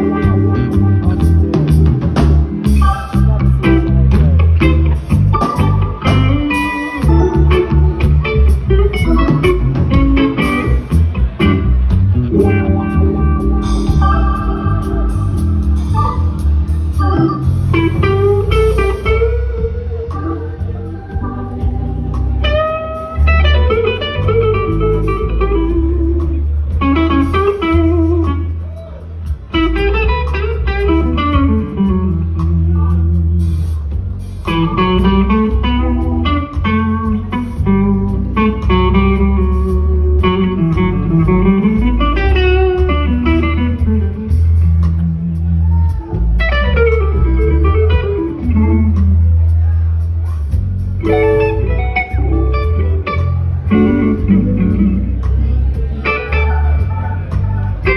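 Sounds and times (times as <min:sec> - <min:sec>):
blues electric guitar solo: 0:00.0 - 0:57.9
drums and bass backing: 0:00.0 - 0:57.9.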